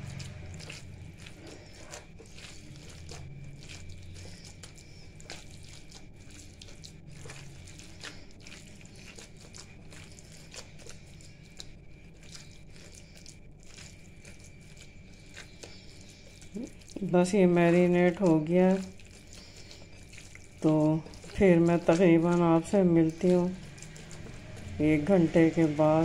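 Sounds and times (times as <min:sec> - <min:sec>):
wet squishing of kneaded meat: 0:00.0 - 0:26.0.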